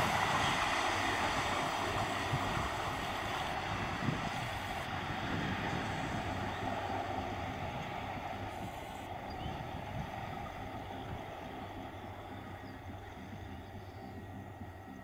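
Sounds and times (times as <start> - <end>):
electric train rumble and hiss: 0.0 - 15.0.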